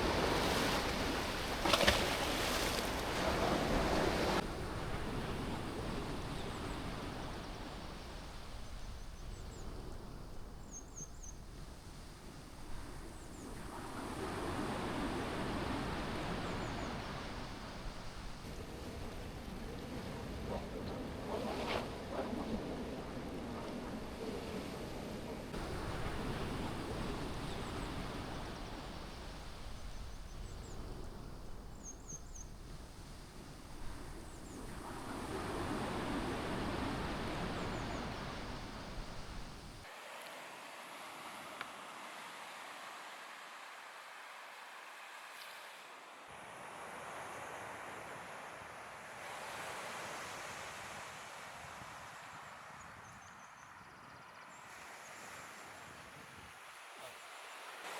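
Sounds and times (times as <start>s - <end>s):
surf washing on a beach: 0.0s - 10.6s, 11.3s - 53.6s, 54.4s - 57.9s.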